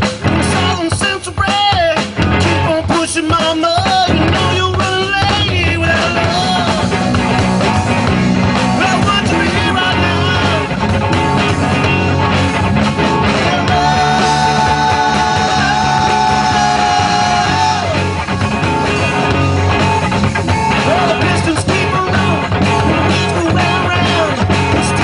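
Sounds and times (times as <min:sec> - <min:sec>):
bass guitar line: 0:00.0 - 0:25.0
drum beat: 0:00.0 - 0:25.0
lead guitar with bent notes: 0:00.0 - 0:25.0.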